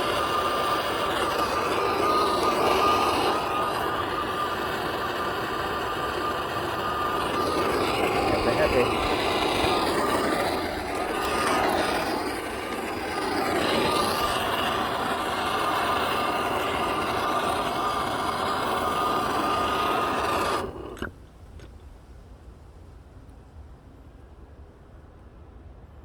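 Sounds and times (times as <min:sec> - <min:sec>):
soldering torch burning: 0:00.0 - 0:21.7.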